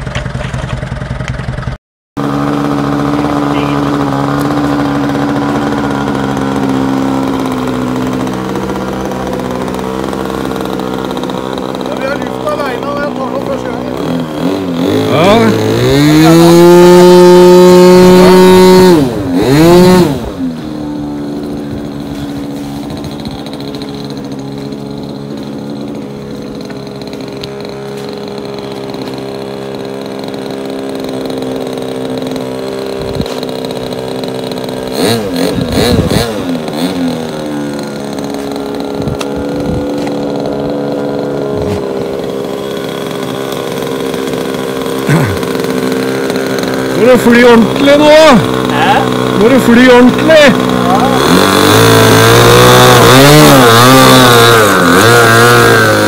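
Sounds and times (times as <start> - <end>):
model airplane engine revving: 0.0 - 56.0.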